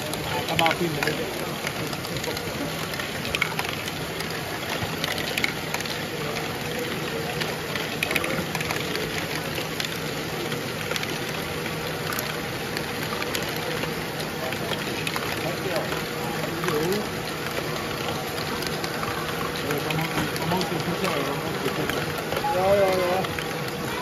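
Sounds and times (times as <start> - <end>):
plastic balls clicking and rattling: 0.1 - 23.8.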